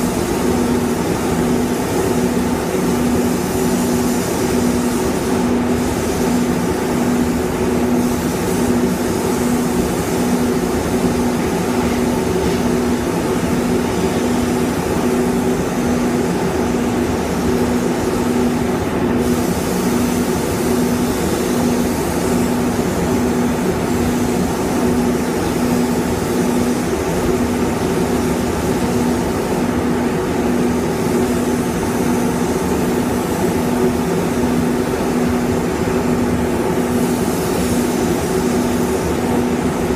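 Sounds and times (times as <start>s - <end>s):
spray gun air hiss: 0.0s - 39.9s
ventilation hum: 0.0s - 39.9s.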